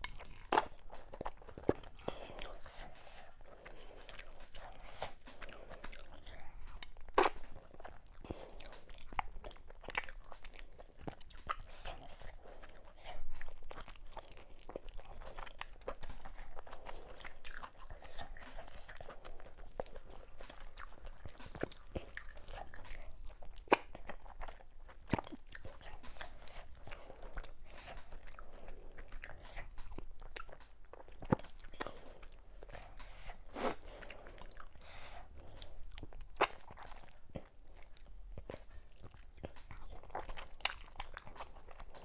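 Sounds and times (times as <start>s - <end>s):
wet chewing and crunching: 0.0s - 42.0s.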